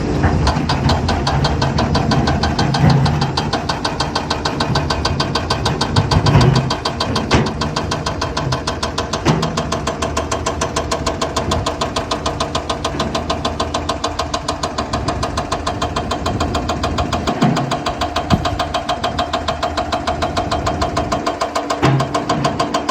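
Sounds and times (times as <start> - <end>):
excavator diesel engine throbbing: 0.0 - 22.9
sharp knocks: 0.2 - 22.9.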